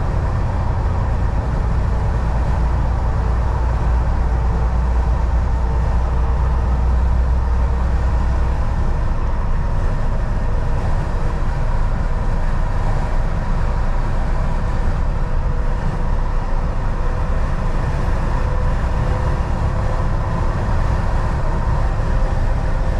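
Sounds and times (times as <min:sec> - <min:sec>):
heavy low rumble: 0:00.0 - 0:22.9
truck engine and road noise: 0:00.0 - 0:22.9.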